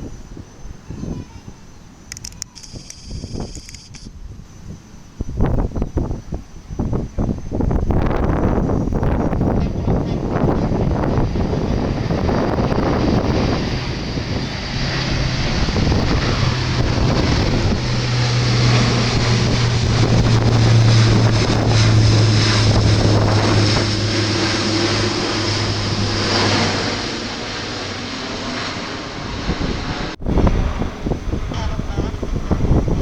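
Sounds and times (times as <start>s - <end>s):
propeller aircraft drone: 0.0s - 33.0s
wind buffeting microphone: 0.0s - 33.0s.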